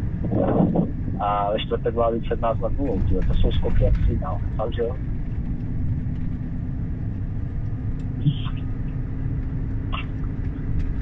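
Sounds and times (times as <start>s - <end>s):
truck engine and tyres rumble: 0.0s - 11.0s.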